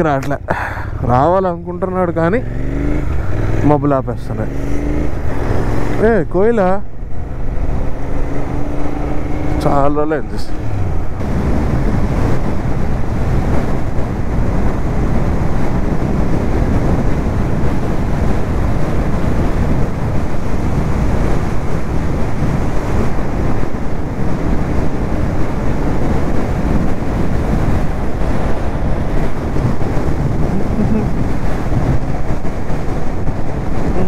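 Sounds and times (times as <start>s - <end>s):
wind buffeting microphone: 0.0s - 34.0s
motorcycle engine running: 0.9s - 34.0s.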